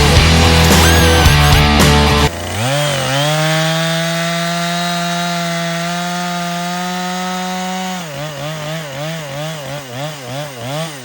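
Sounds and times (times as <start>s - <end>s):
chainsaw cutting wood: 0.0s - 11.0s.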